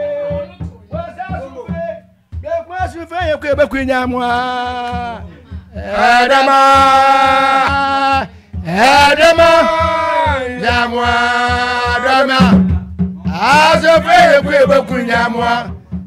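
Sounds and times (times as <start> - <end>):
men chanting: 0.0 - 15.9
drum beating quick pulse: 0.0 - 16.0.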